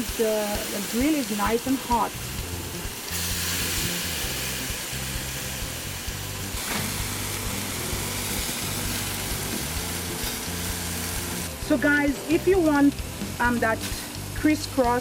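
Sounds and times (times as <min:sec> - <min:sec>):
background music: 0:00.0 - 0:15.0
chicken sizzling on a grill: 0:00.0 - 0:15.0.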